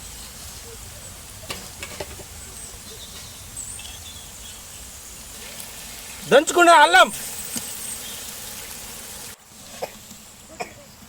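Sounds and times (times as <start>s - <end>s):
onions frying in hot oil: 0.0s - 11.0s.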